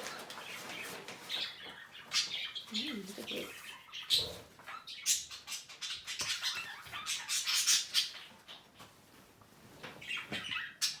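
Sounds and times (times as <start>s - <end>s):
budgerigars chirping and warbling: 0.1s - 8.8s, 10.0s - 11.0s.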